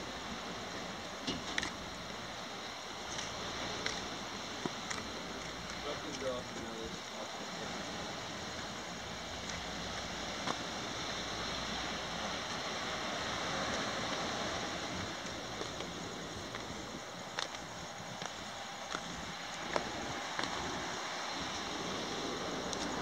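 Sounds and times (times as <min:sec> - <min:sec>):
sea surf washing: 0:00.0 - 0:23.0.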